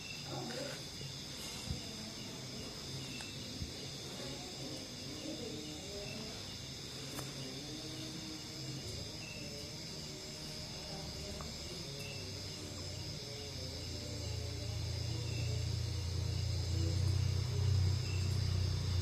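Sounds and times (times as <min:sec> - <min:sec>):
high insect-like chirring: 0:00.0 - 0:19.0
low steady hum: 0:00.0 - 0:19.0.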